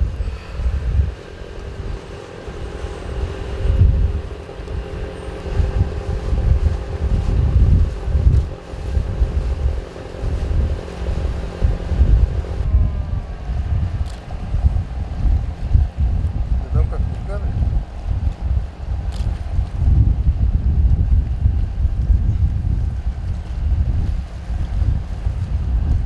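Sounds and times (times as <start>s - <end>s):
faint steady hum: 0.0s - 26.0s
wind buffeting microphone: 0.0s - 26.0s.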